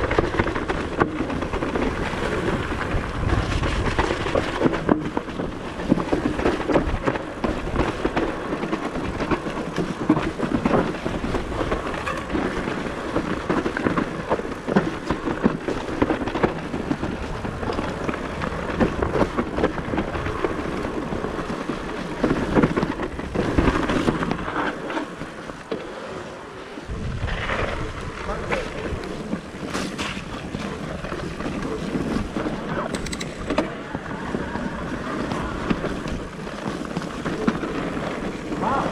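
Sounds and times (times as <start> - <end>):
bike rattling and clattering: 0.0 - 38.9
tyres rolling over dirt: 0.0 - 38.9.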